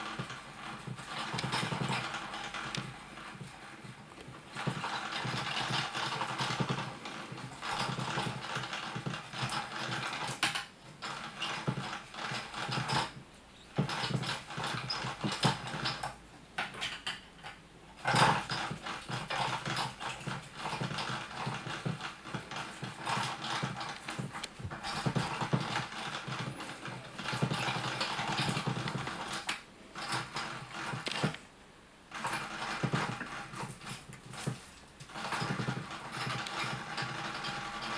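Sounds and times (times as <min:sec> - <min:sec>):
cat toy whirring and rattling: 0:00.0 - 0:17.2, 0:18.0 - 0:31.5, 0:32.1 - 0:37.9.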